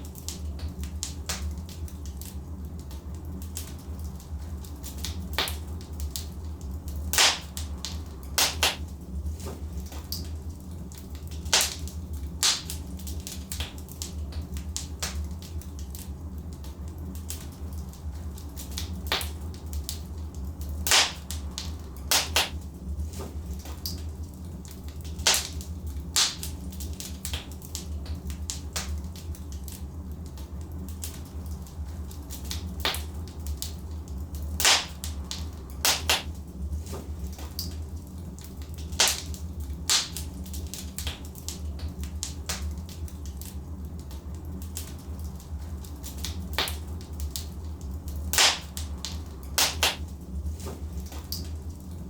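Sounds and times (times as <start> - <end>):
logs crackling and popping: 0.0 - 52.0
low rumble of fire: 0.0 - 52.0.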